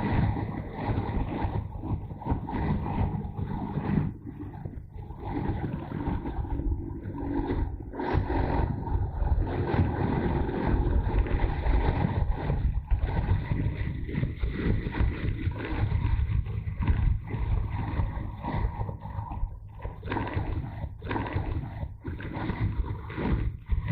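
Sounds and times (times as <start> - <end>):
motorcycle engine running: 0.0 - 21.6
wind rumble on microphone: 0.0 - 23.9.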